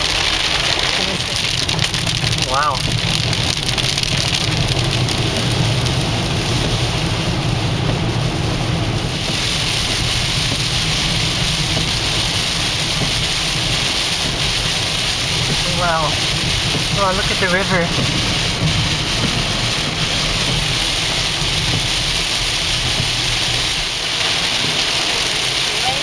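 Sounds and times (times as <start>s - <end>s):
heavy rain on car: 0.0s - 26.0s
road and engine rumble: 0.0s - 26.0s.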